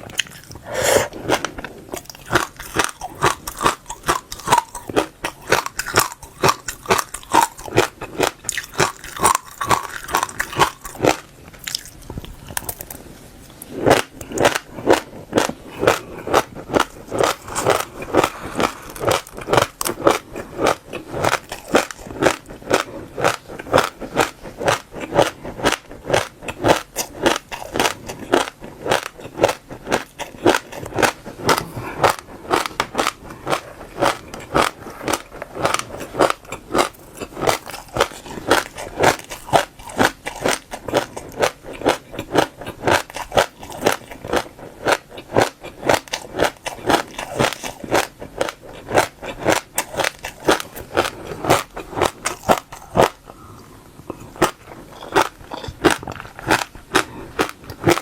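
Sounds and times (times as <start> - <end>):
seeds crunching between teeth: 0.0 - 53.4, 54.1 - 58.0.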